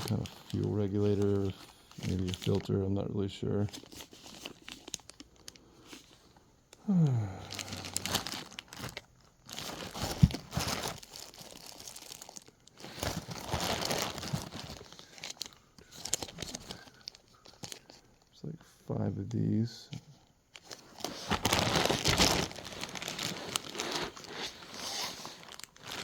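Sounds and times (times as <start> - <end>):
packaging crinkling and rustling: 0.0 - 6.5, 7.4 - 18.2, 20.5 - 26.0.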